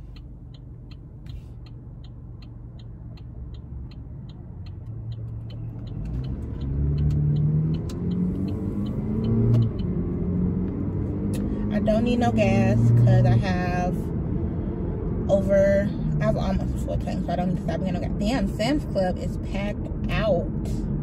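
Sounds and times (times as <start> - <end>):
car engine running: 0.0 - 21.0
turn signal ticking: 0.0 - 21.0.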